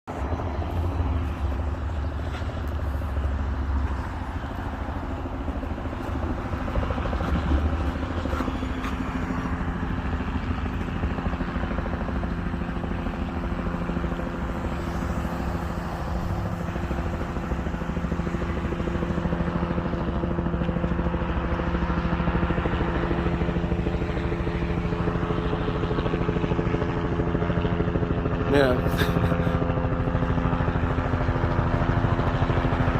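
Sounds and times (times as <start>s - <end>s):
helicopter engine and rotor drone: 0.1s - 32.9s.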